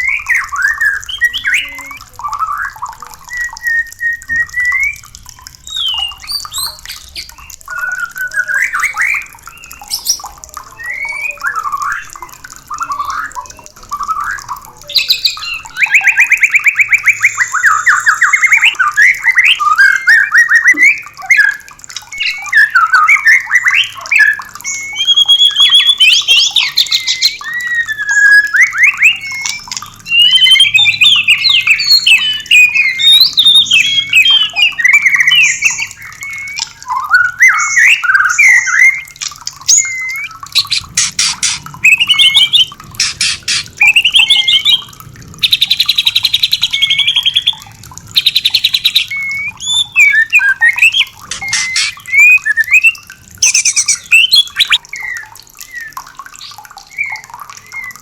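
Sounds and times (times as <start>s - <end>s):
bird singing whistled phrases and trills: 0.0s - 58.0s.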